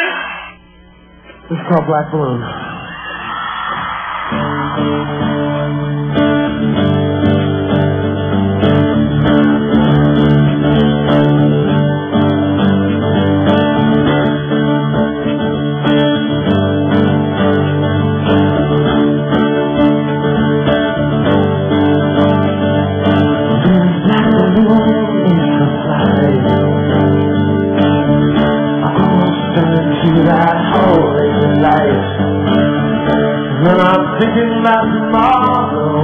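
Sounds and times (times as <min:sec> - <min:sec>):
bass guitar: 0:00.0 - 0:36.0
electric guitars strummed: 0:00.0 - 0:36.0.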